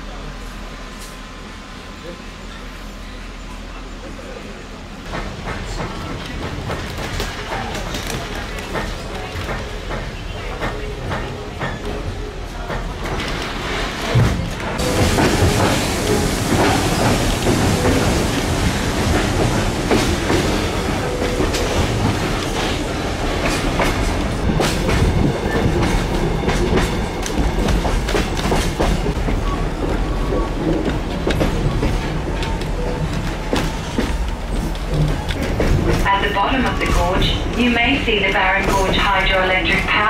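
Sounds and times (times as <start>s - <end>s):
train carriages rumbling: 2.1s - 40.0s.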